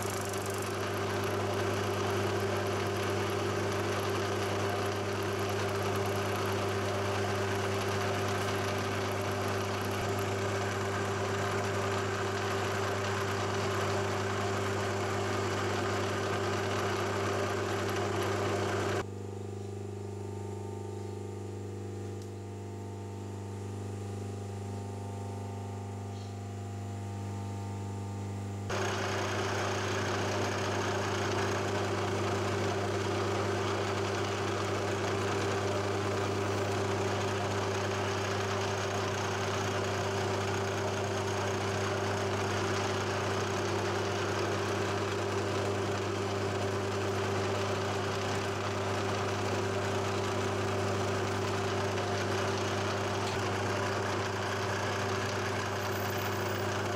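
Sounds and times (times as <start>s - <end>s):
drill motor humming: 0.0s - 19.0s, 28.7s - 56.9s.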